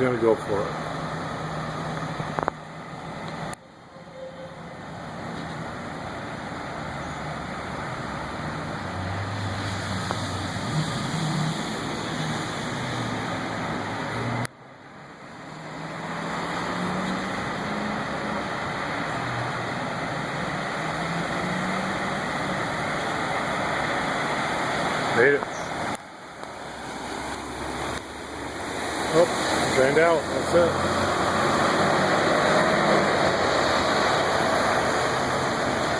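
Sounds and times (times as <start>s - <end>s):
steady rushing water: 0.0s - 35.9s.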